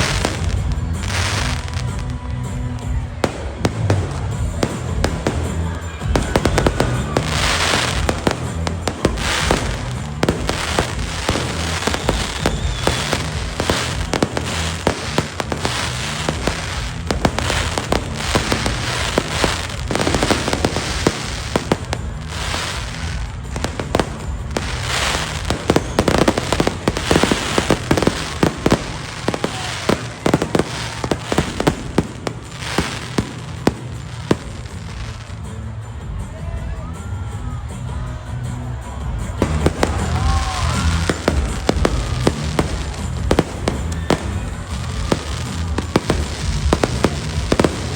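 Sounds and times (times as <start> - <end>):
fireworks bursting and crackling: 0.0 - 36.2, 38.7 - 47.9
bass-heavy music: 0.0 - 47.9.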